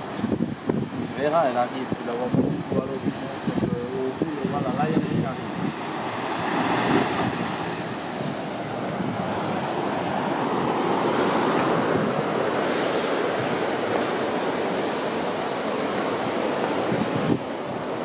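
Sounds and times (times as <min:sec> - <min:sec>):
waves breaking on rocks: 0:00.0 - 0:18.0
wind on microphone: 0:00.0 - 0:18.0.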